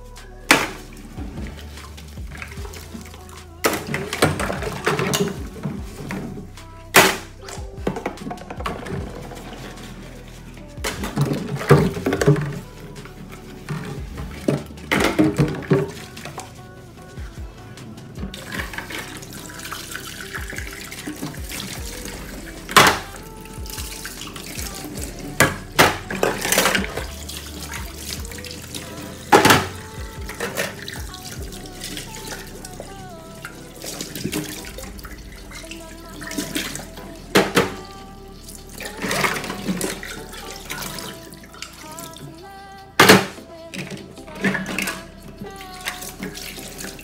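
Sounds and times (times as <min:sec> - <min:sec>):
background music: 0:00.0 - 0:47.0.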